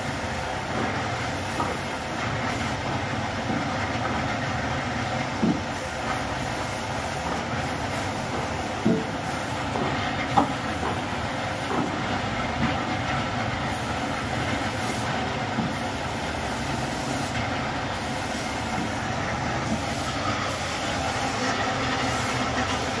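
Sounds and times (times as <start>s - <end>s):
workshop machine motor running: 0.0s - 23.0s.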